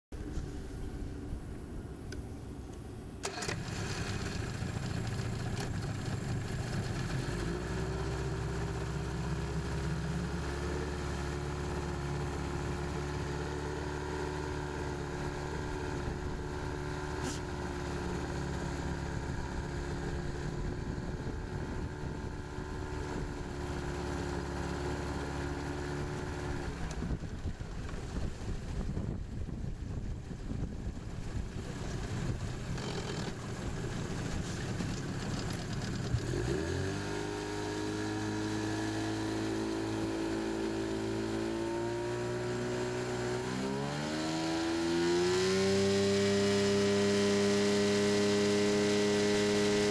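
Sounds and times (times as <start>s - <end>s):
outboard motor starting and running: 0.2s - 49.9s.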